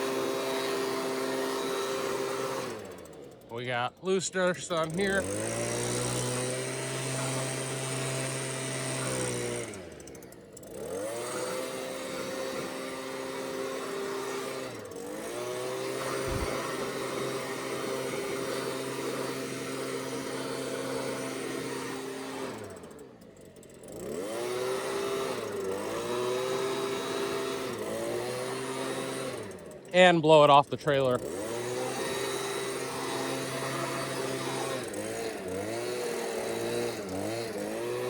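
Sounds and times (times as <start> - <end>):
leaf blower revving: 0.0 - 38.0.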